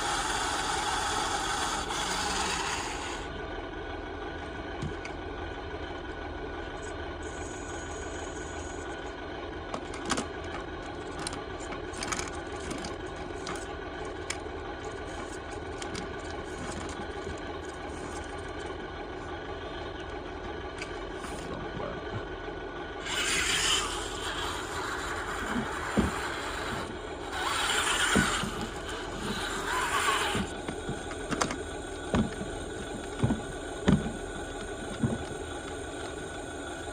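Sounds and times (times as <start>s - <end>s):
toy excavator motors whirring: 0.0s - 3.4s, 6.7s - 21.7s, 22.9s - 36.9s.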